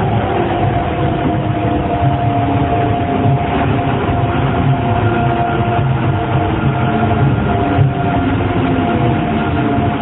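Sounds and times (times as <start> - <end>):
low train rumble: 0.0 - 10.0.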